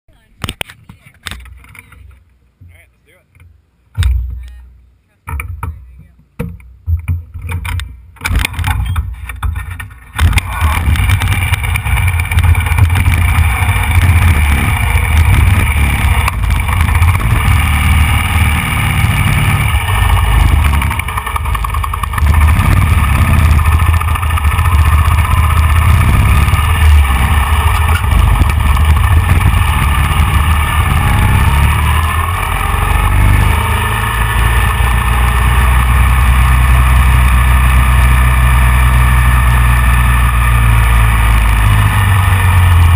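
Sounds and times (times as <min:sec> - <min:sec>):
motorcycle engine running: 0:07.6 - 0:42.9.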